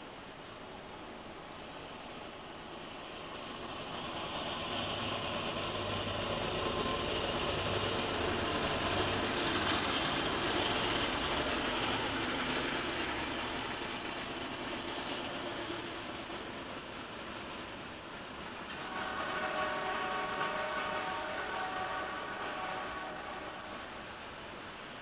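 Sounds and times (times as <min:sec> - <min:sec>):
diesel locomotives passing: 0:00.0 - 0:25.0.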